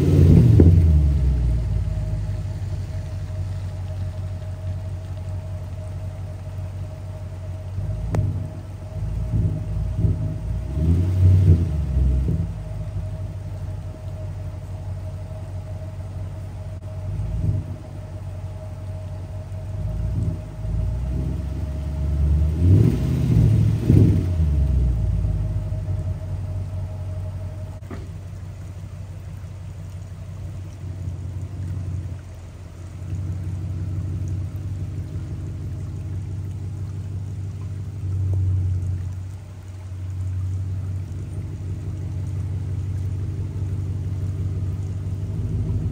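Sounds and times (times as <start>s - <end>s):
car engine revving and idling: 0.0s - 45.9s
rain hissing on wet road: 0.0s - 45.9s.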